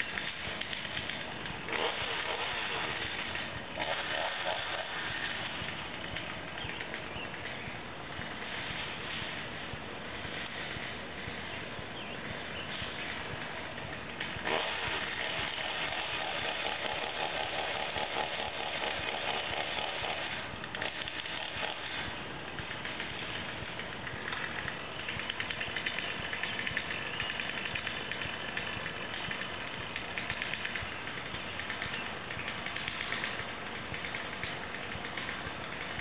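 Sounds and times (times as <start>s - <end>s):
chainsaw engine revving: 0.0s - 11.6s, 12.4s - 36.0s.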